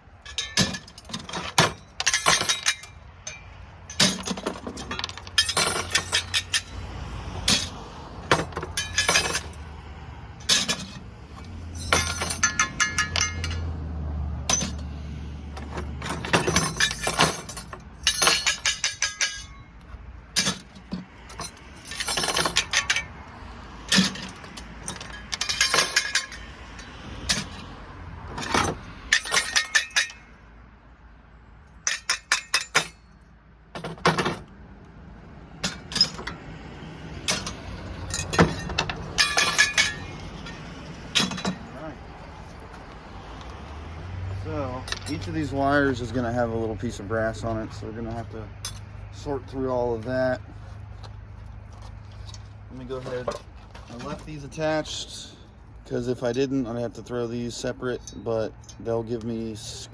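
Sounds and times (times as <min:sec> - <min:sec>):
metal parts clinking and rattling: 0:00.1 - 0:06.8, 0:07.4 - 0:09.8, 0:10.4 - 0:13.7, 0:14.4 - 0:23.2, 0:23.8 - 0:27.7, 0:28.3 - 0:30.4, 0:31.6 - 0:34.5, 0:35.6 - 0:36.5, 0:37.2 - 0:43.6, 0:44.8 - 0:55.5.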